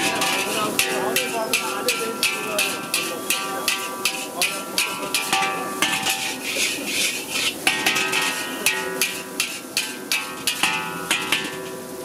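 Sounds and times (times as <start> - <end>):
frying hiss: 0.0 - 12.0
metal spatula clanking on wok: 0.0 - 12.0.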